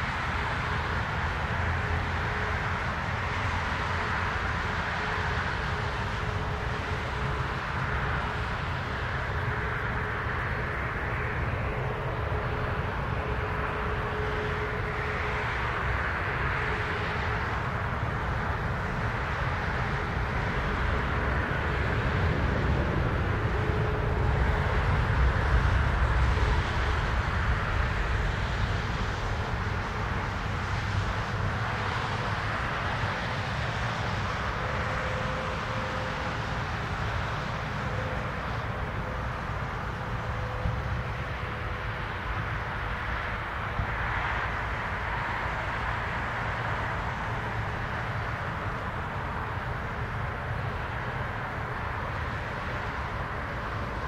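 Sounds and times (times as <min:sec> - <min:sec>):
turboprop aircraft engines droning: 0:00.0 - 0:54.0.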